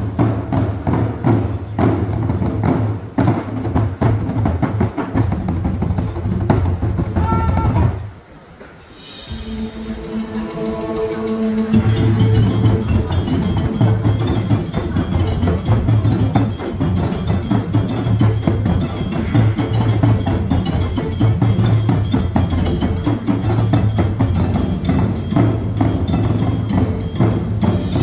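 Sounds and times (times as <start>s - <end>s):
rapid drumming: 0.0s - 8.3s, 9.0s - 28.0s.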